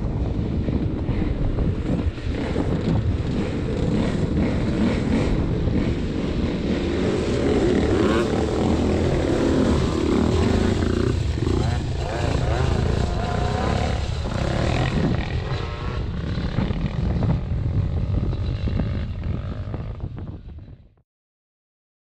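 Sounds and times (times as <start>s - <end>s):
quad engine revving: 1.1s - 20.1s.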